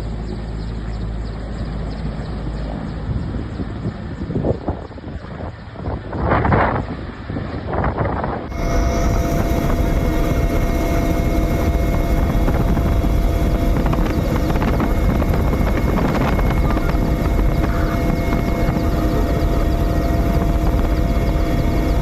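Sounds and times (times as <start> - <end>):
helicopter flying close: 0.0 - 22.0.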